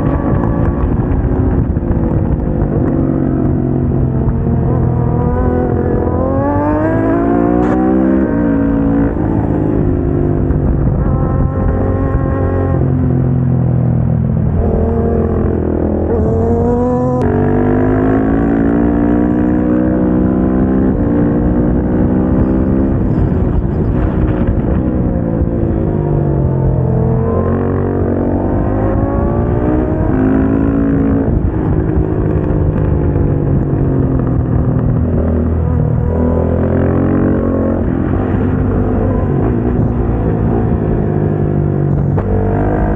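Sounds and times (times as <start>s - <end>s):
motorcycle engine at full throttle: 0.0s - 42.9s.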